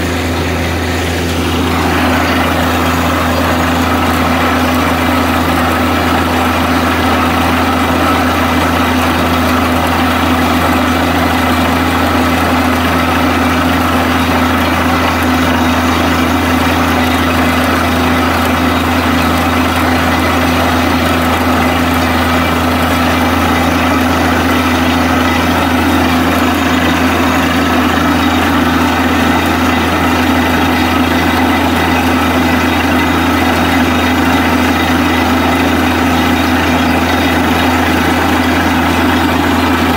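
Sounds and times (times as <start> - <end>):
drilling rig engine droning: 0.0 - 39.9.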